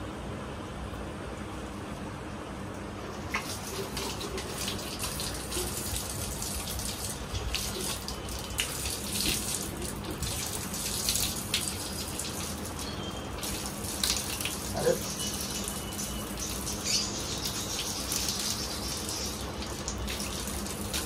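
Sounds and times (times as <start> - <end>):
water splashing on face: 3.3 - 21.0.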